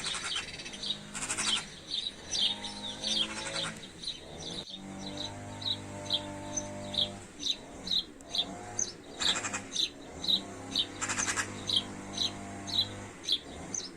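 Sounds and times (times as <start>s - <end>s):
bird chirping: 0.0s - 13.9s.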